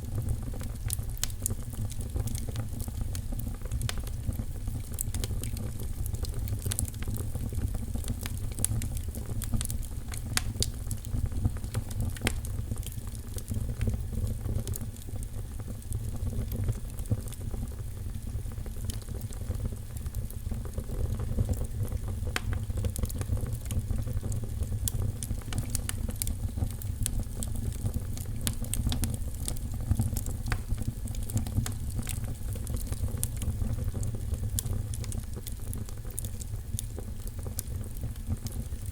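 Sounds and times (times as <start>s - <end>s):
fire popping and snapping: 0.0s - 38.9s
wood fire crackling: 0.0s - 38.9s.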